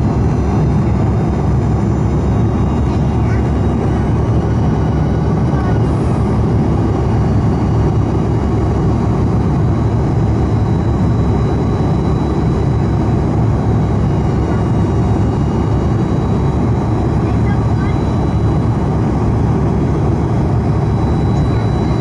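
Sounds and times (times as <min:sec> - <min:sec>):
airliner cabin engine drone: 0:00.0 - 0:22.0
faint high whine: 0:00.0 - 0:22.0.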